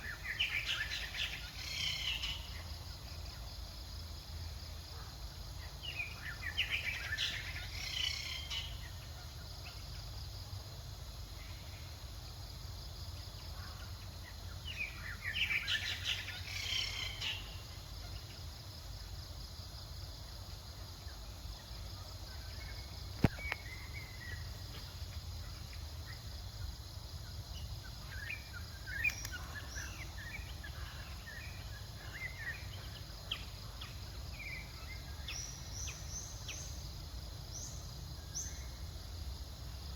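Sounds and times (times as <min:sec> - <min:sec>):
low outdoor rumble and hiss: 0:00.0 - 0:39.9.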